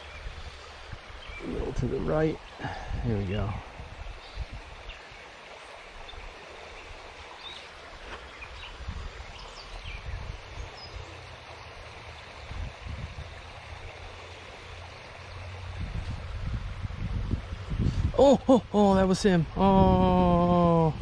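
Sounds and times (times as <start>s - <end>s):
creek running over its bed: 0.0s - 21.0s.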